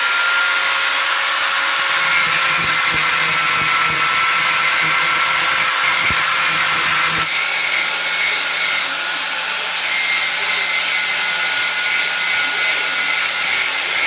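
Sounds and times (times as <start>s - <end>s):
grinder disc grinding steel: 0.0s - 14.0s
grinder motor whine: 0.0s - 14.0s.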